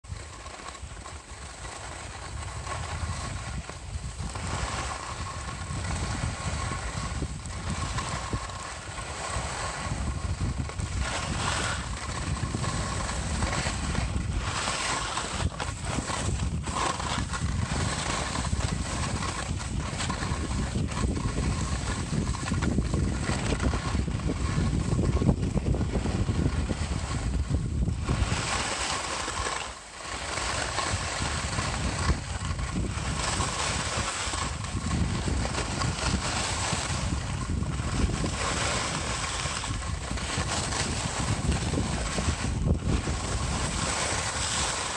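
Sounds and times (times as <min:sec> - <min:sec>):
wind rumbling on microphone: 0:00.0 - 0:44.9
ski edges scraping on snow: 0:00.1 - 0:44.9.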